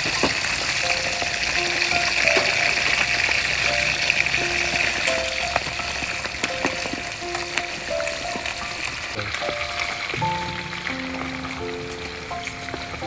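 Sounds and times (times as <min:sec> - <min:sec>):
prawns deep-frying in oil: 0:00.0 - 0:13.0.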